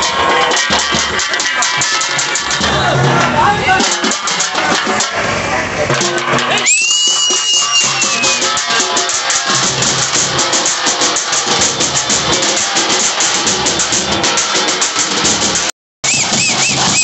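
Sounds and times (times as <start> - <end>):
crowd noise: 0.0 - 17.0
frame drums beaten with sticks: 0.0 - 17.0.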